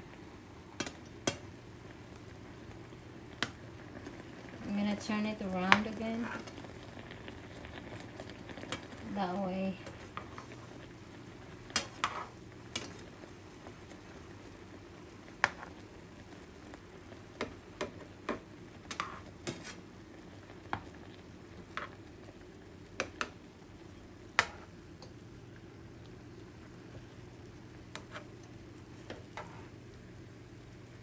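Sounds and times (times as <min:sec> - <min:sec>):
sausages sizzling and bubbling: 0:00.0 - 0:31.0.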